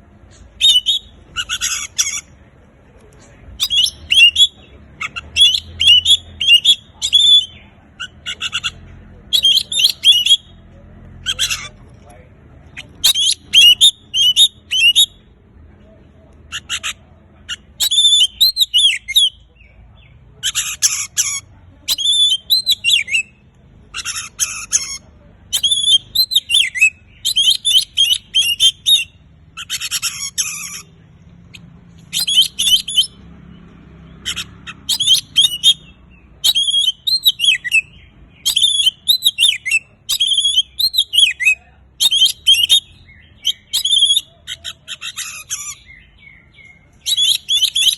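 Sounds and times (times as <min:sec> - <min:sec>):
songbird whistling and rasping: 0:00.3 - 0:02.4, 0:03.5 - 0:11.8, 0:12.7 - 0:15.4, 0:16.5 - 0:47.9.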